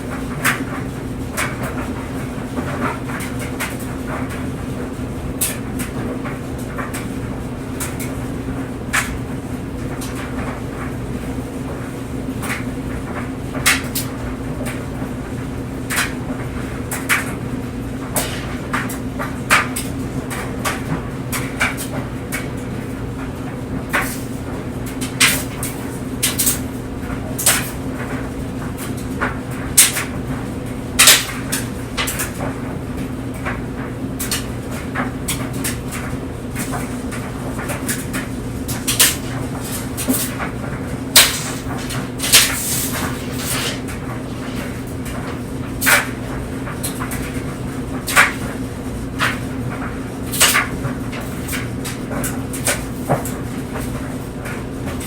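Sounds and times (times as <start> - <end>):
clothes dryer humming: 0.0 - 55.0.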